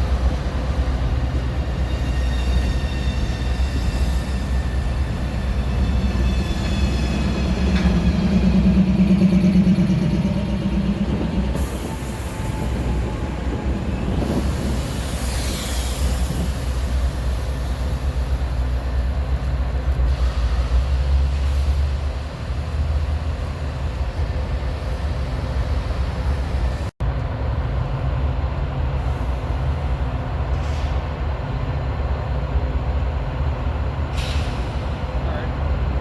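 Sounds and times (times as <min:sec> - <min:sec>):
diesel train rumbling: 0:00.0 - 0:36.0.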